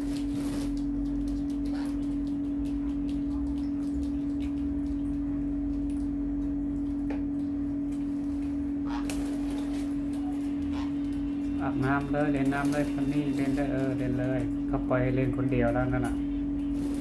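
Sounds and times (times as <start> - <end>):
parrots splashing in water: 0.0 - 14.4, 16.6 - 17.0
steady hum: 0.0 - 17.0.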